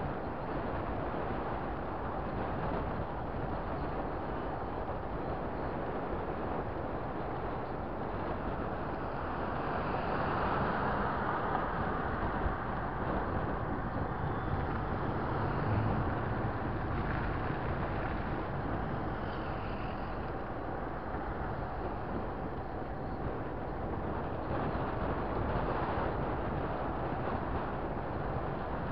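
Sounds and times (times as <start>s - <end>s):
road noise rumble: 0.0s - 28.9s
wind buffeting microphone: 0.0s - 28.9s.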